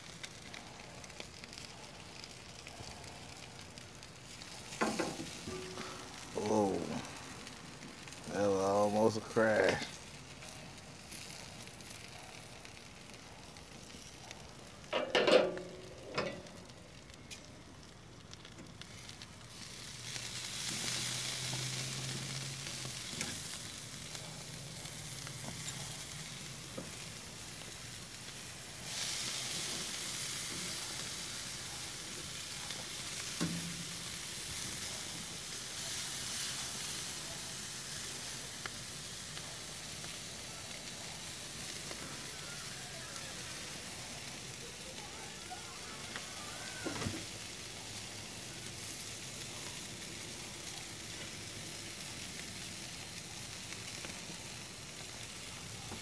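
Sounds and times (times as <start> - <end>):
meat sizzling on a grill: 0.0 - 56.0.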